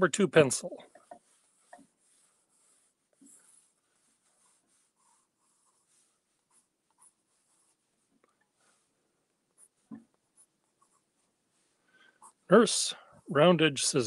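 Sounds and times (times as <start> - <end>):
pencil scratching on paper: 0.9 - 12.5.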